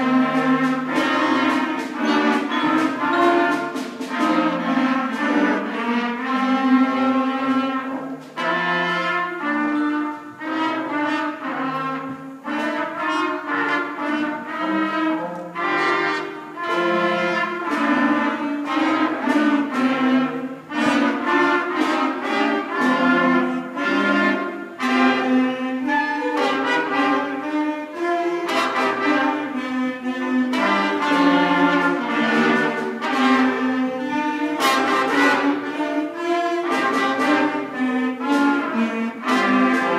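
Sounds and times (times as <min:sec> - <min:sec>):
school concert band playing: 0:00.0 - 0:39.9
steady percussion: 0:00.0 - 0:39.9.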